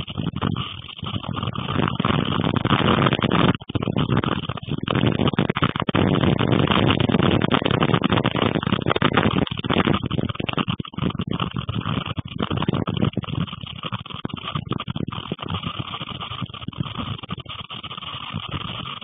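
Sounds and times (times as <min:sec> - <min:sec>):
storm wind buffeting microphone: 0:00.0 - 0:19.0.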